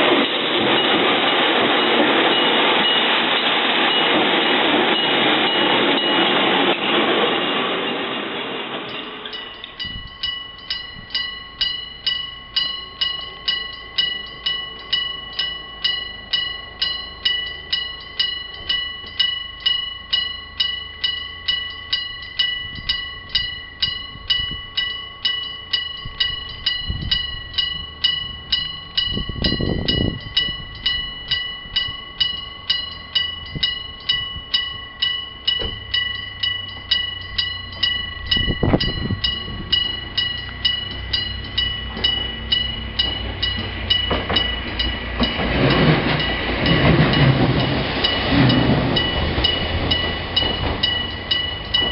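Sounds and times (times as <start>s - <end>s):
level crossing warning bell ringing: 0.0s - 51.9s.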